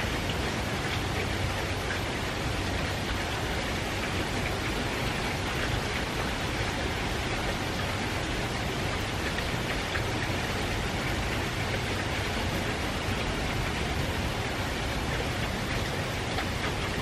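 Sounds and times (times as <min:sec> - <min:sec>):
rain drop ticks: 0:00.0 - 0:17.0
steady rain hiss: 0:00.0 - 0:17.0.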